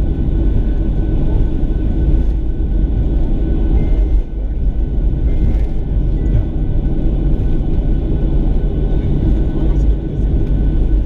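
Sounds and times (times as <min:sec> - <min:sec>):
jet engine rumble: 0:00.0 - 0:11.0
faint whining tones: 0:01.3 - 0:11.0.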